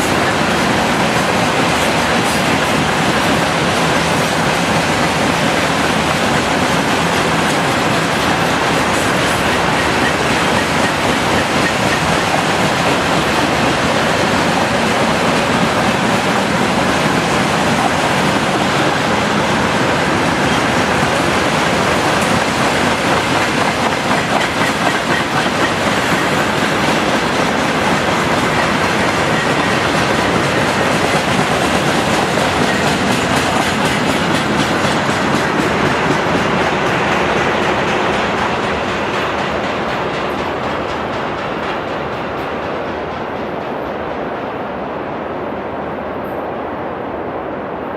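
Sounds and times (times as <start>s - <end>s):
freight train rumbling on rails: 0.0s - 47.9s.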